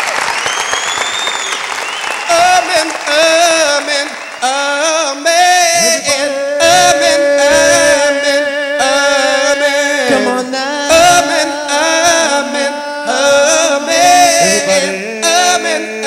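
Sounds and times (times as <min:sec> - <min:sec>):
male a cappella group singing: 0:02.3 - 0:16.0.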